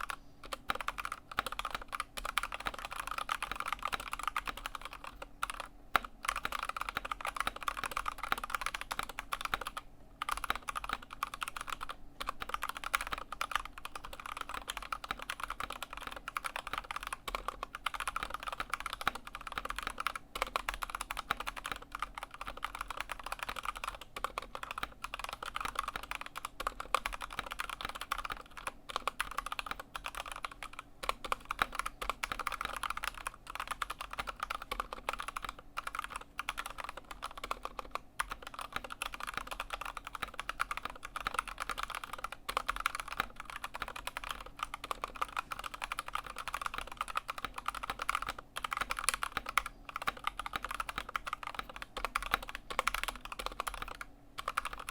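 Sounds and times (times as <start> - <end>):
fast typing on mechanical keyboard: 0.0 - 54.9.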